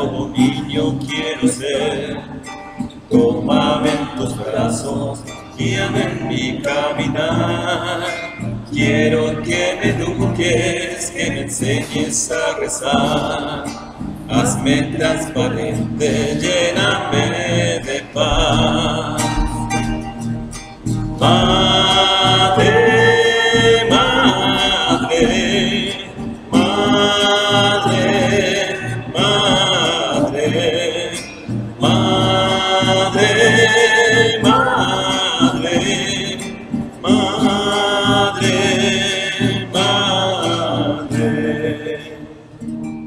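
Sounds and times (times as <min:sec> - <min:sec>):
person singing a hymn: 0:00.0 - 0:20.2, 0:20.8 - 0:42.6
acoustic guitar: 0:00.0 - 0:43.0.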